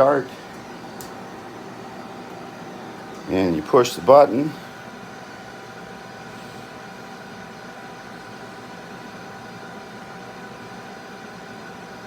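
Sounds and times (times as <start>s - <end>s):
heat gun fan whirring: 0.0s - 12.0s
laser cutter running: 0.0s - 12.0s.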